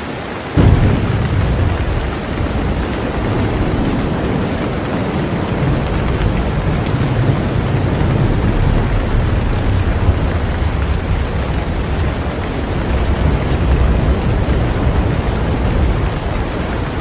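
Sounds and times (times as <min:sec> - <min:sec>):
heavy rain on a boat: 0:00.0 - 0:17.0
low rumble: 0:00.6 - 0:17.0.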